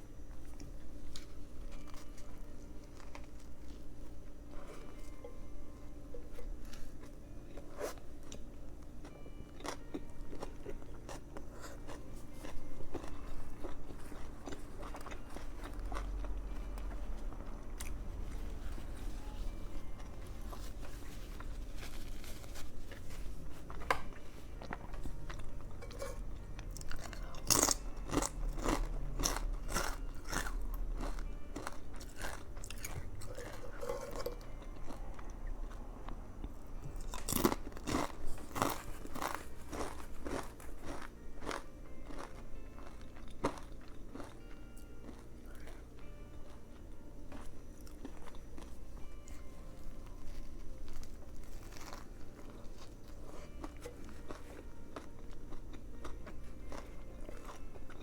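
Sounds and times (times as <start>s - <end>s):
soft chewing: 0.3s - 58.0s.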